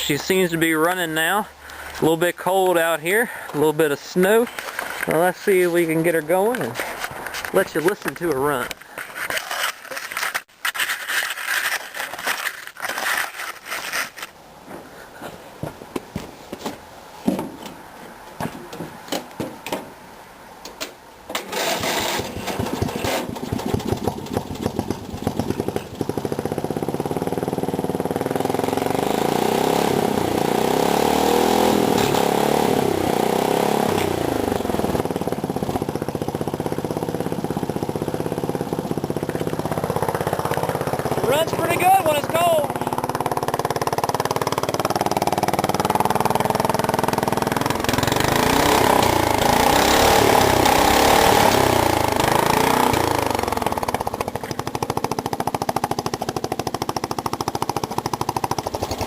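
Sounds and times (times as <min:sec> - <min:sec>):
lawnmower engine starting and running: 0:00.0 - 0:14.3, 0:21.3 - 0:59.0.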